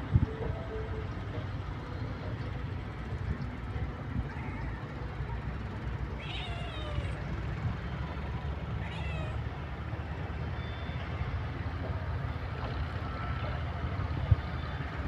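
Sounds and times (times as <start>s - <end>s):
engines and machinery rumbling: 0.0s - 15.0s.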